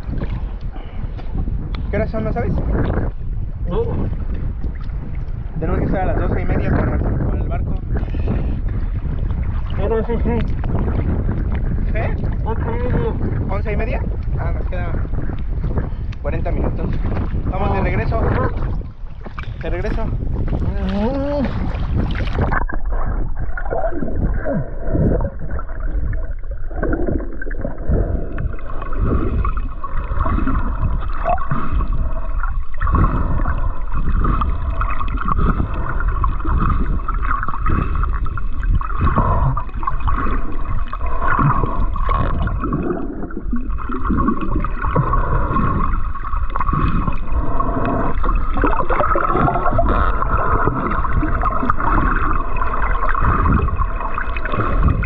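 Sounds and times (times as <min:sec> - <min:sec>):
muffled water gurgling and sloshing: 0:00.0 - 0:55.0.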